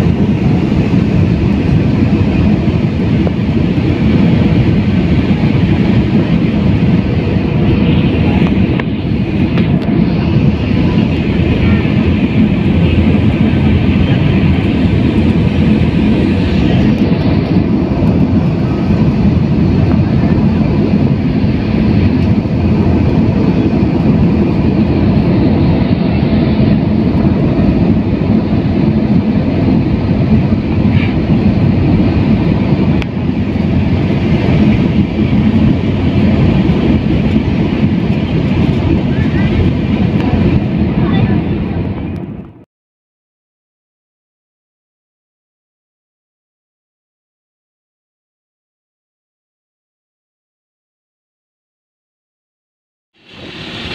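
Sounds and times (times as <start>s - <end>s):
jet airliner cabin rumble: 0.0s - 42.7s, 53.2s - 53.9s.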